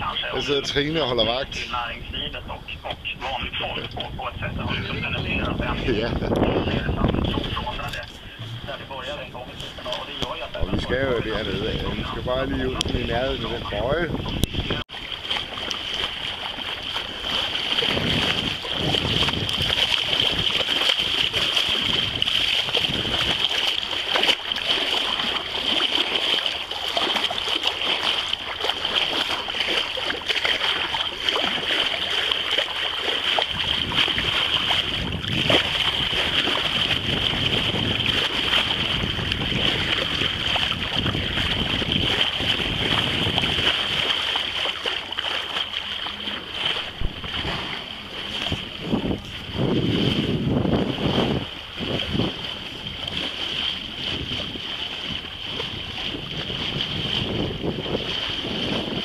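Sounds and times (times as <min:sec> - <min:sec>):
water rushing along a hull: 0:00.0 - 0:59.0
wind buffeting microphone: 0:00.0 - 0:59.0.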